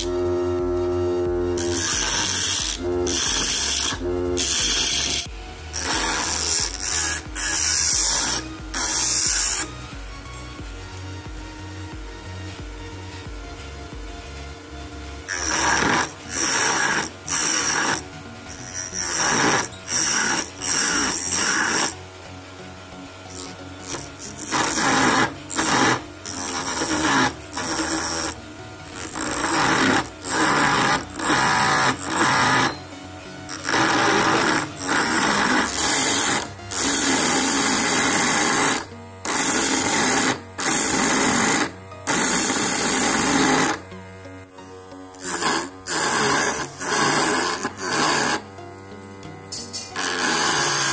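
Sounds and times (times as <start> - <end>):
blade scraping wood: 0.0 - 22.2, 22.8 - 50.9
electric motor running: 0.0 - 50.9.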